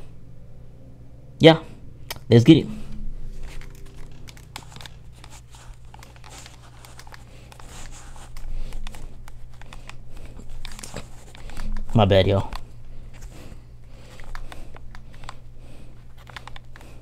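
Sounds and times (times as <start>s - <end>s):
steady low hum: 0.0s - 17.0s
headphones rustling and clicking: 3.3s - 17.0s.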